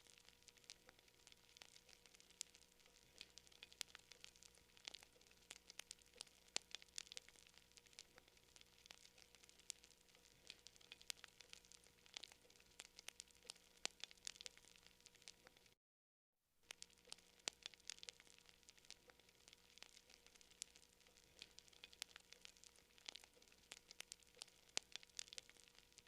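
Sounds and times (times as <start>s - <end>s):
campfire crackling: 0.0s - 15.8s, 16.7s - 26.0s
faint fire hiss: 0.0s - 15.8s, 16.6s - 26.0s.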